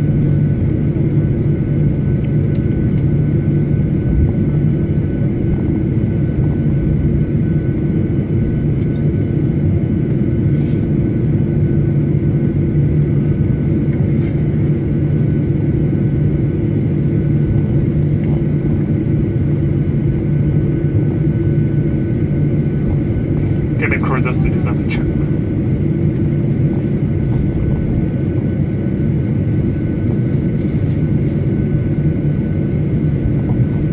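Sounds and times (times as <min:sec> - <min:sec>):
jet engines idling rumble: 0:00.0 - 0:33.9.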